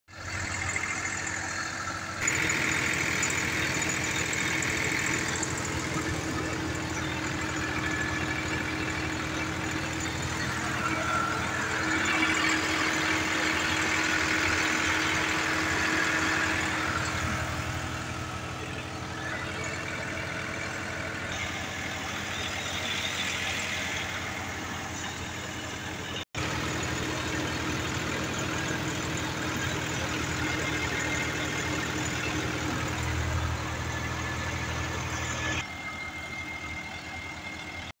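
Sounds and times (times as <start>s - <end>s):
tractor diesel engine running: 0.1s - 38.0s
thresher whirring: 0.3s - 37.8s.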